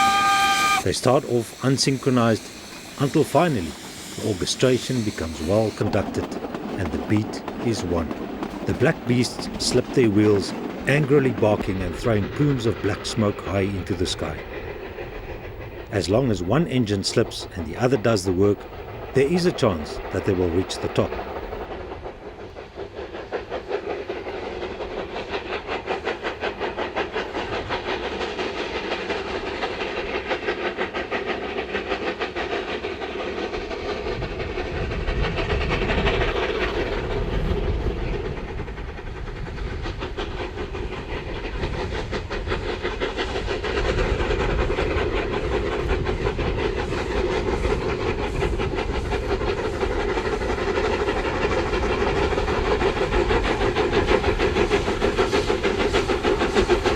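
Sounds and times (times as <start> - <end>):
steam locomotives chuffing: 0.0 - 56.9.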